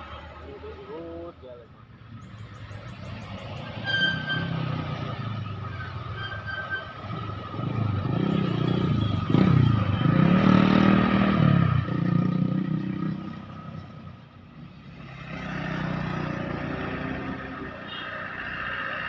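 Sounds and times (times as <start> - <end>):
vehicle engine passing: 2.2 - 13.8, 14.8 - 19.0.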